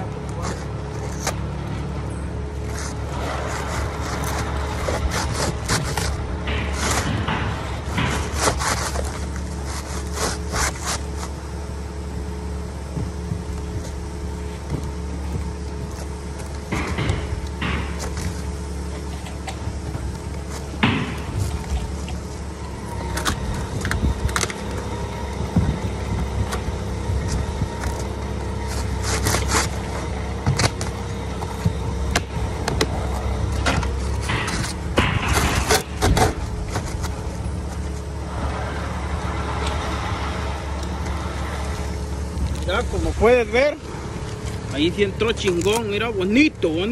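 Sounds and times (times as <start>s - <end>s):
steady low hum: 0.0s - 46.9s
steady low rumble: 0.0s - 46.9s
shingles scraping on roof: 2.5s - 46.9s.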